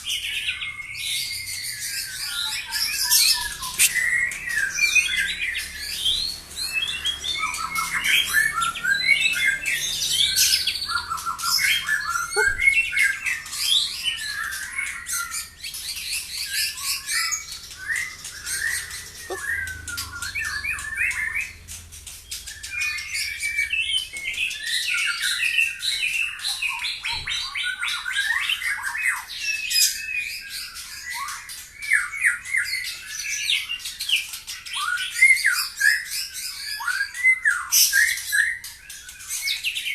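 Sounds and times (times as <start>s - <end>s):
songbird singing trills and whistles: 0.0s - 39.9s.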